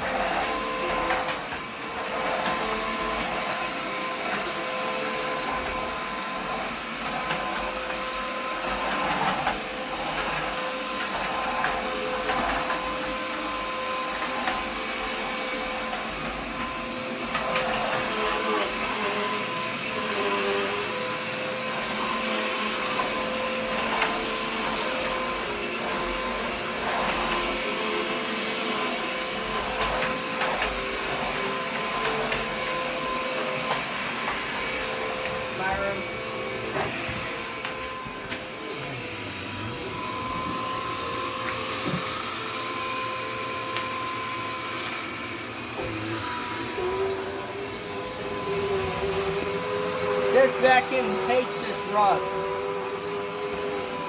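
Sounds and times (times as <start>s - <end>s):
vacuum cleaner motor whine: 0.0s - 54.0s
vacuum scraping over floor: 0.0s - 54.0s.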